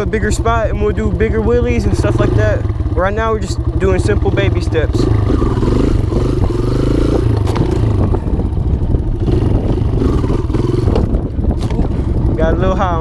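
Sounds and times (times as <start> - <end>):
dirt bike engine revving: 0.0 - 12.6.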